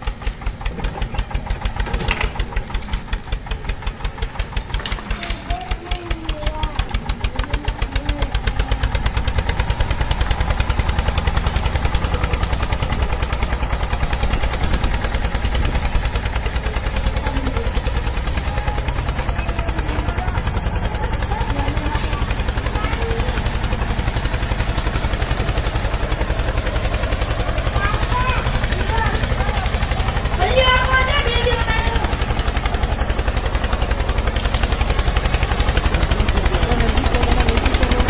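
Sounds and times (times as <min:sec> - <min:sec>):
engine running with fast pulse: 0:00.0 - 0:38.0.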